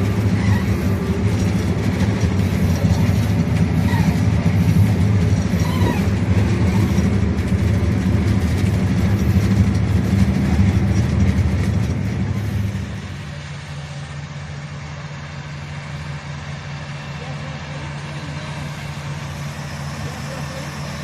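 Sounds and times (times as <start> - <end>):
diesel engine revving and idling: 0.0 - 21.0.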